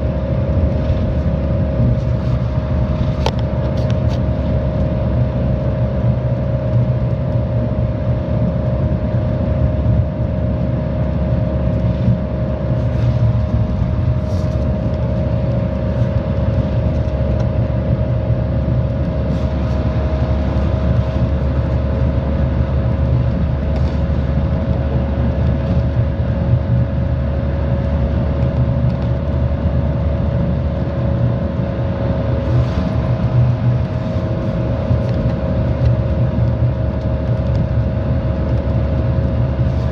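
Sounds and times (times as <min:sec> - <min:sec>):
bus engine rumble: 0:00.0 - 0:39.9
mid-pitched whine: 0:00.0 - 0:39.9.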